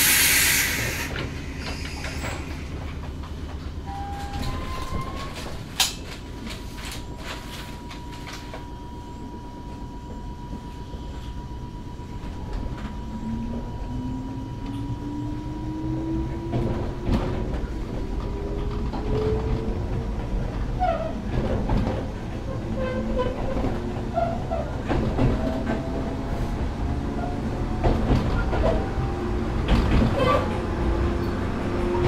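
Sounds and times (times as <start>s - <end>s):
train interior low rumble: 0.0s - 32.0s.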